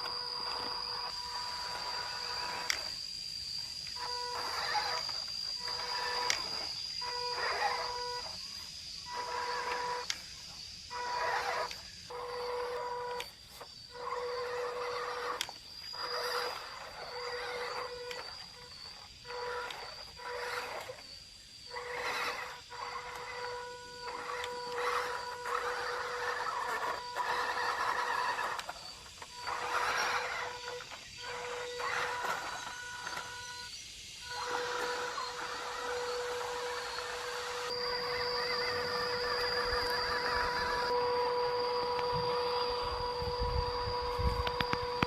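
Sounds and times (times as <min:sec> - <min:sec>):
high-pitched electronic whine: 0:00.0 - 0:45.0
toy truck motor whirring: 0:00.0 - 0:45.0.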